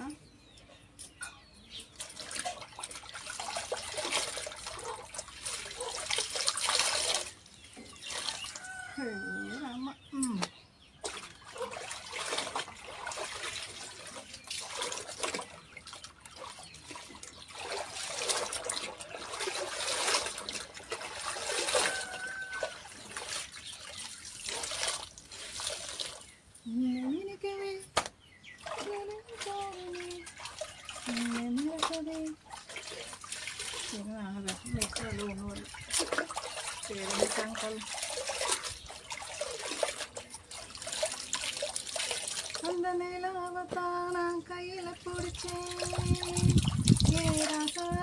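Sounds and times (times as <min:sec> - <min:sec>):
clothes swished in water: 0:01.7 - 0:09.5, 0:11.0 - 0:26.3, 0:28.6 - 0:42.8, 0:45.0 - 0:48.0
water splashing into tub: 0:01.7 - 0:09.8, 0:10.4 - 0:26.4, 0:27.9 - 0:43.9, 0:44.7 - 0:48.0.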